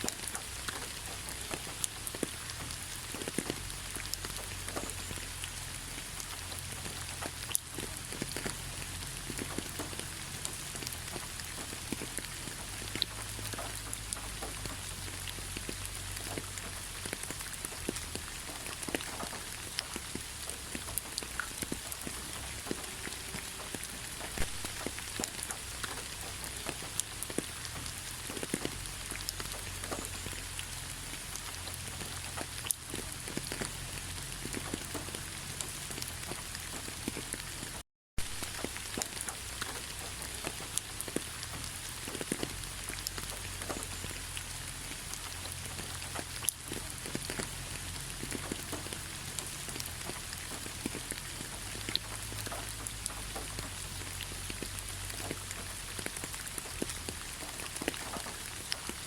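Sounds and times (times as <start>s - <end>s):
raindrops ticking: 0.0s - 59.0s
steady rain hiss: 0.0s - 59.0s.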